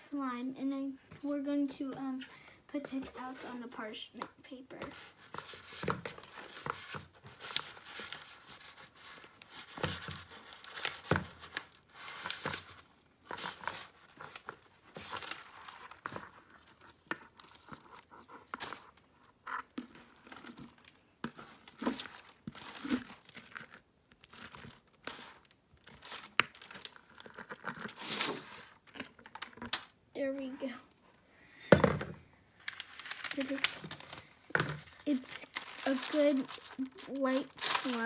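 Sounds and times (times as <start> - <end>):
paper crinkling and rustling: 2.9 - 30.0, 32.6 - 38.0.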